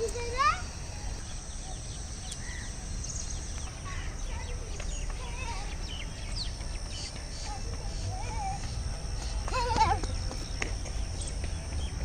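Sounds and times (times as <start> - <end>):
birds chirping and whistling: 0.0 - 12.0
high-pitched insect trill: 0.0 - 12.0.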